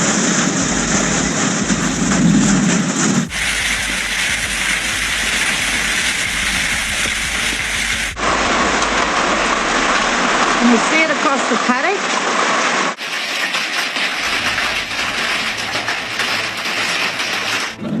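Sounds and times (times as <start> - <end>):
heavy rain and hail: 0.0 - 17.8.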